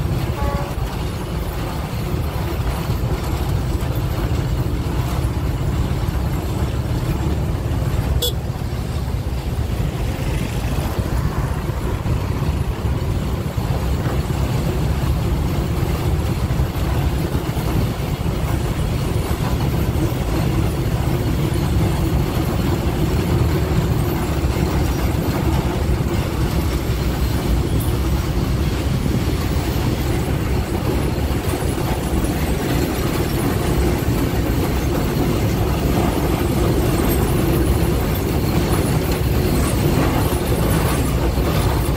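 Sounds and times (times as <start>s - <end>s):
diesel locomotive hauling freight train: 0.0s - 41.9s.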